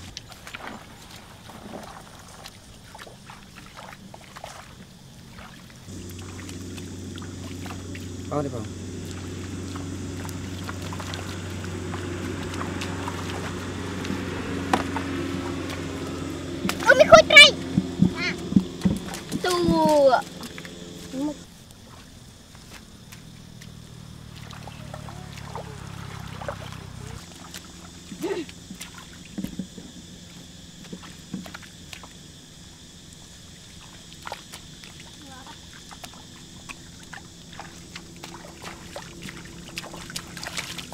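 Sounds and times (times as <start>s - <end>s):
low motor hum: 0.0s - 40.9s
splashes in muddy water: 0.0s - 40.9s.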